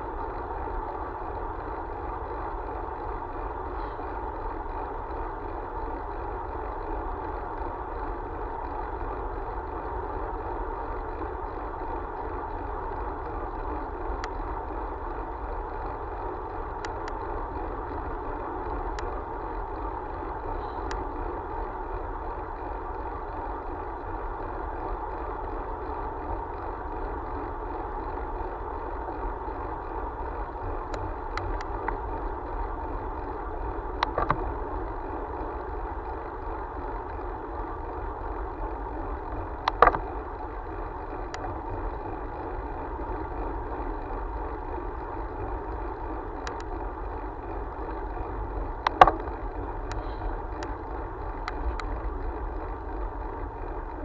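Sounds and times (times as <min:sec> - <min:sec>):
vehicle rolling on paved road: 0:00.0 - 0:54.0.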